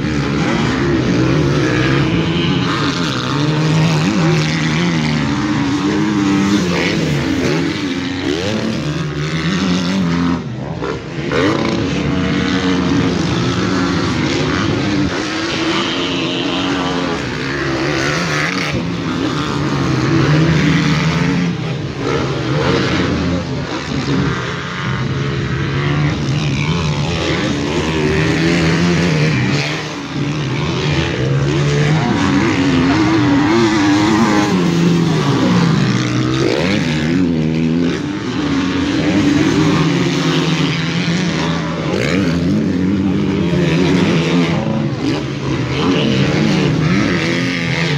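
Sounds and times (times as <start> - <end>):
dirt bike engines racing: 0.0 - 47.9.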